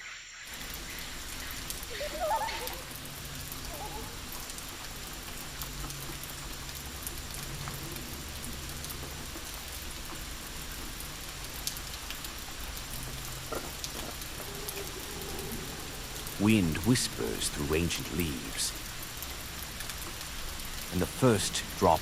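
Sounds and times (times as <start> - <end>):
rain on foliage: 0.0 - 22.0.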